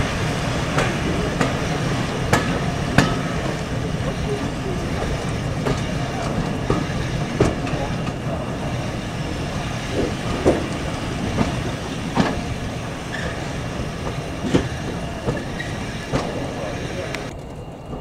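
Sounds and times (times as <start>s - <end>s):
wheel knocks over rail joints: 0.0s - 17.3s
train coaches rumbling: 0.0s - 18.0s.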